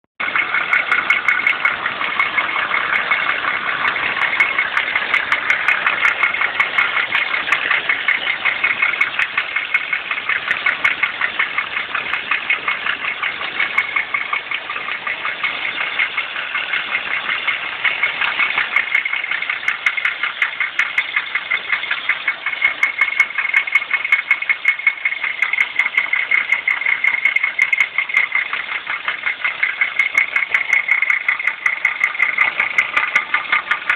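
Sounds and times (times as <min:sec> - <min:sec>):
car engine running: 0:00.2 - 0:33.9
rapid engine knock: 0:00.2 - 0:33.9.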